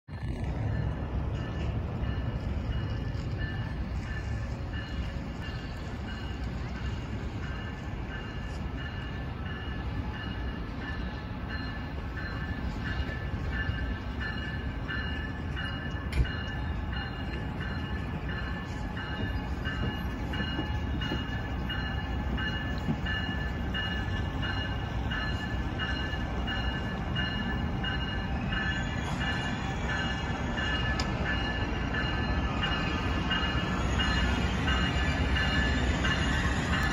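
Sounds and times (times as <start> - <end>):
train engine and rail rumble: 0.1 - 36.9
train bell ringing: 0.2 - 36.9.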